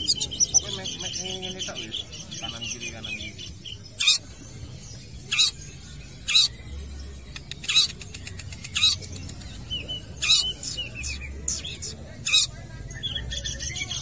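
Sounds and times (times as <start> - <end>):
bird harsh calls: 0.0 - 14.0.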